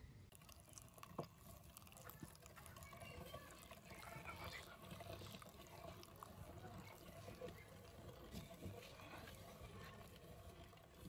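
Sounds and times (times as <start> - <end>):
wet squelching of meat grinder: 0.3 - 11.0.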